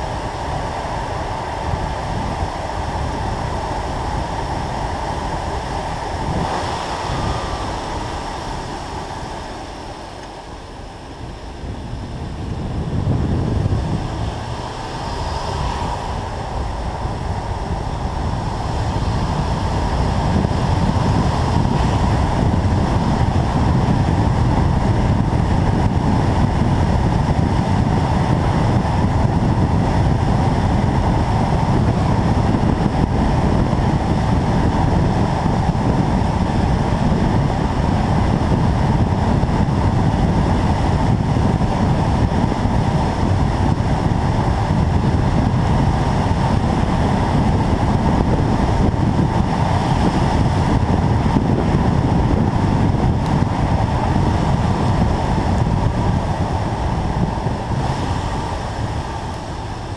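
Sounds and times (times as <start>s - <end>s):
tyre noise on wet road: 0.0s - 59.9s
wind buffeting microphone: 0.0s - 59.9s.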